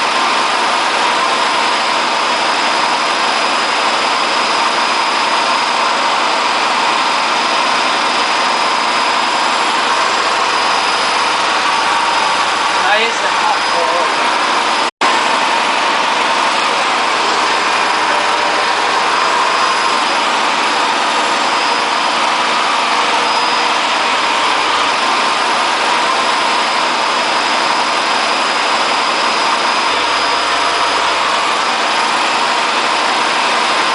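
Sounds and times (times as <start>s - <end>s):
washing machine spin rumble: 0.0s - 33.9s.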